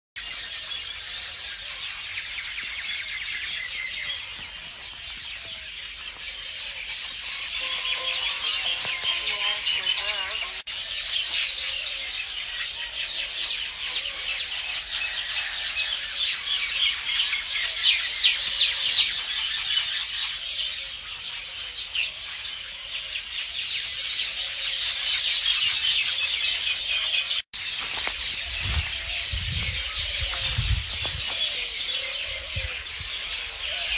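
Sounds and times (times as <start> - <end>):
small birds chirping: 0.2 - 15.6, 16.3 - 33.9.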